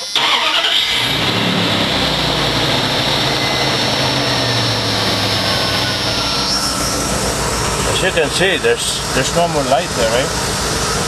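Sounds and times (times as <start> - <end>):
truck engine starting and running: 0.0 - 11.0.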